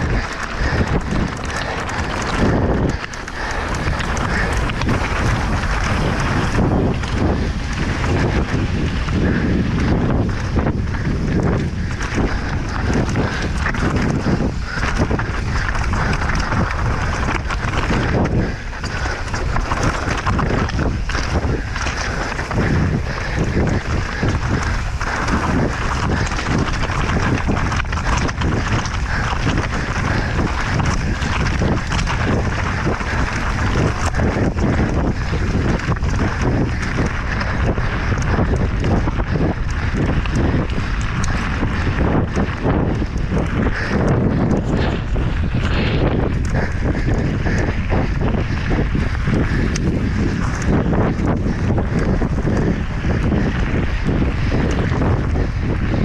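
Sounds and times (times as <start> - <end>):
bike rattling and knocking: 0.0 - 56.0
tyres rumbling over rough ground: 0.0 - 56.0
wind buffeting microphone: 0.0 - 56.0.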